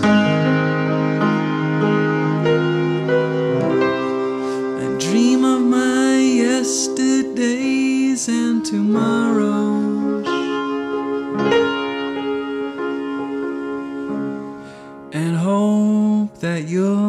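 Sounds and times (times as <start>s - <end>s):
clarinets playing: 0.0s - 15.1s
upright piano: 0.0s - 17.0s.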